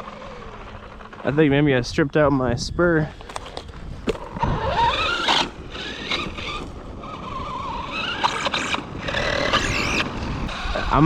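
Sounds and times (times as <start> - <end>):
toy truck motor whine: 0.0 - 1.5, 3.2 - 11.0.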